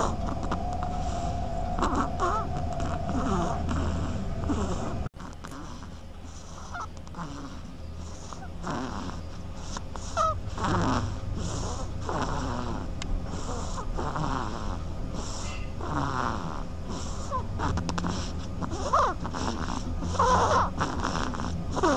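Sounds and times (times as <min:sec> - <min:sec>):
animal snoring: 0:00.0 - 0:21.9.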